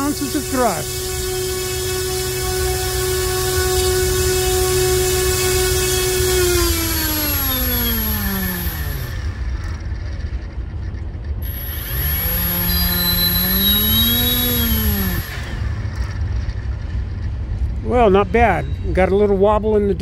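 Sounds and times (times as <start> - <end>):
electric motor propeller whine: 0.0 - 10.4, 11.4 - 17.0.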